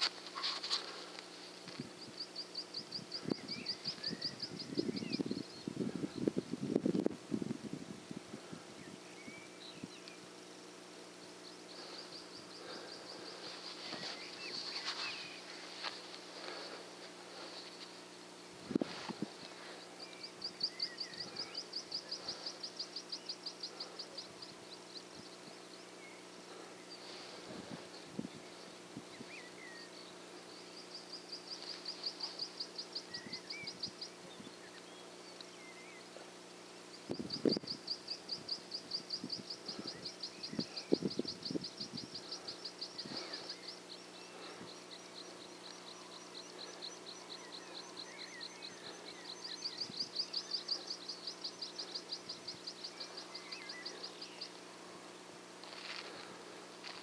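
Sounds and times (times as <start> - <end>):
bird reeling trills: 0.0 - 6.3, 8.8 - 57.0
faint steady hum: 0.0 - 57.0.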